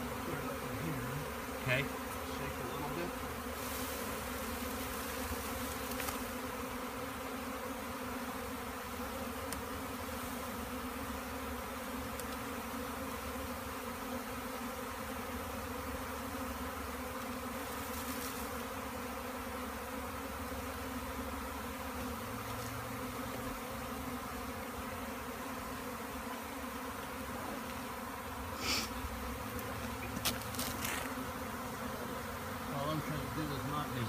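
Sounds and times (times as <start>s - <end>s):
swarm of bees buzzing: 0.0s - 34.0s.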